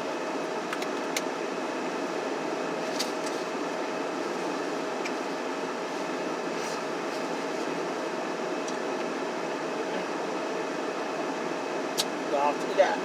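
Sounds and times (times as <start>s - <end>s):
ventilation fan hum: 0.0s - 13.0s.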